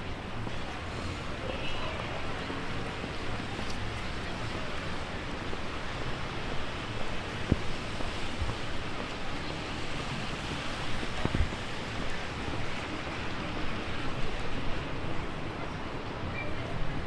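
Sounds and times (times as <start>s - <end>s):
gusty wind: 0.0s - 17.0s
heavy rain: 0.0s - 17.0s.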